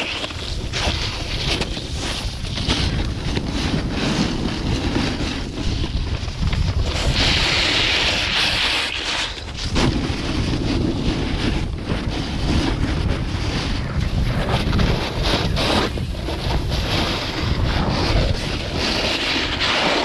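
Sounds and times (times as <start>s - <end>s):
snowboard scraping on snow: 0.0s - 20.0s
wind buffeting microphone: 0.0s - 20.0s.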